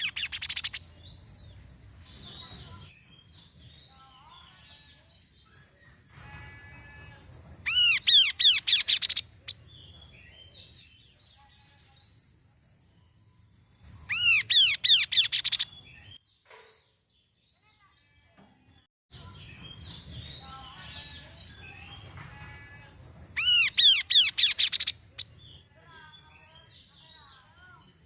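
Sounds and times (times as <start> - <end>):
bird singing rapid notes: 0.0 - 12.4, 13.2 - 16.2, 19.2 - 28.0
soft bird chirps: 0.0 - 28.0.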